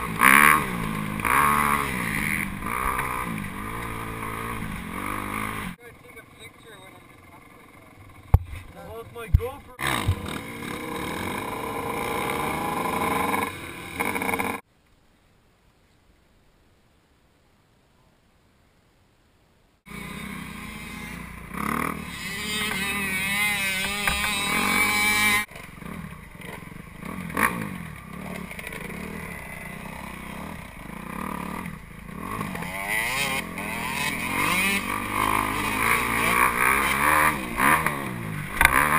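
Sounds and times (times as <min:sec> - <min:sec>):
dirt bike engine revving: 0:00.0 - 0:05.8, 0:08.1 - 0:14.6, 0:19.9 - 0:38.9.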